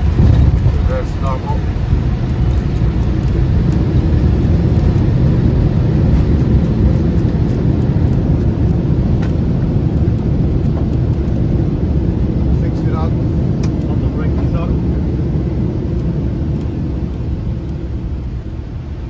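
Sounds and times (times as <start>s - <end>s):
airliner rumbling on runway: 0.0s - 19.0s.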